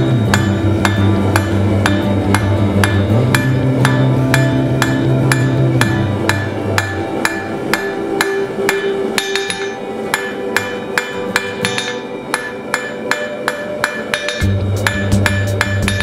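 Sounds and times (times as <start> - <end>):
hammer striking ringing anvil: 0.0 - 16.0.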